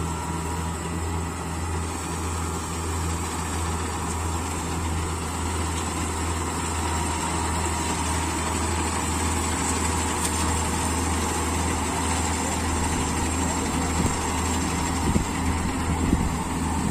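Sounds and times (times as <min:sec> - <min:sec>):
harvester engine running: 0:00.0 - 0:16.9.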